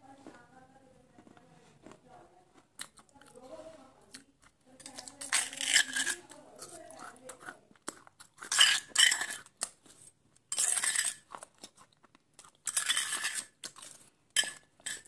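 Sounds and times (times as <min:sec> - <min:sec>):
crunchy food chewing: 0:01.1 - 0:03.5, 0:04.1 - 0:15.0.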